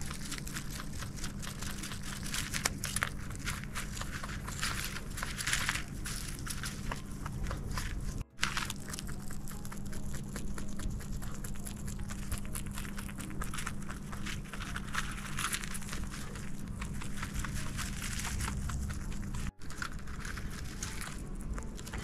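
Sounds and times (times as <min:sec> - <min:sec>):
low hum: 0:00.0 - 0:22.0
rabbit chewing hay: 0:00.0 - 0:22.0.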